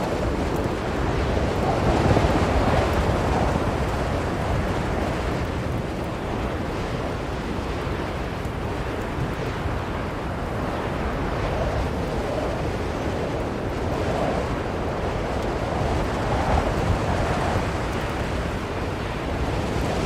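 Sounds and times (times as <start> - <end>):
blizzard wind whooshing: 0.0 - 20.0.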